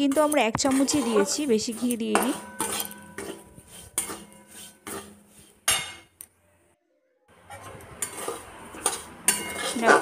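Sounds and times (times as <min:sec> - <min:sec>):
spatula scraping a metal pan: 0:00.0 - 0:06.2, 0:07.4 - 0:10.0.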